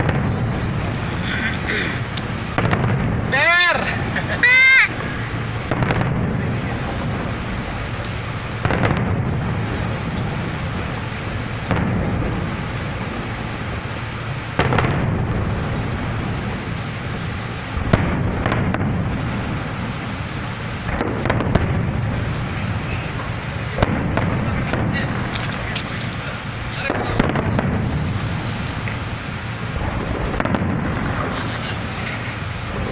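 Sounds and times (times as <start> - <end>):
firework bangs with rumble: 0.0 - 32.9
firework crackle: 0.0 - 32.9
sharp firework cracks: 0.0 - 32.9.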